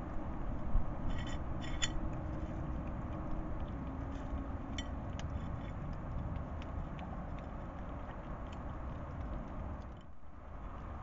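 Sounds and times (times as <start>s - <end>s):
low background rumble: 0.0s - 11.0s
hedgehog chewing clicks: 1.8s - 11.0s.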